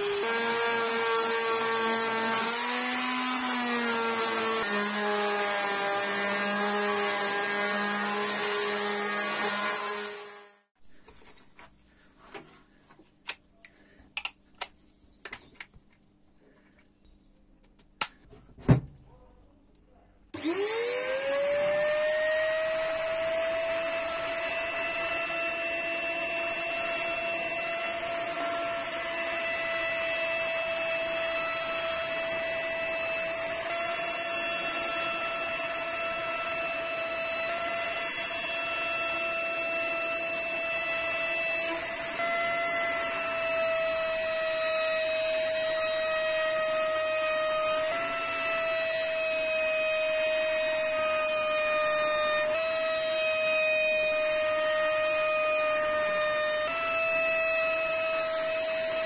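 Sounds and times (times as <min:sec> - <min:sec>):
router whining: 0:00.0 - 0:10.7, 0:20.4 - 0:59.0.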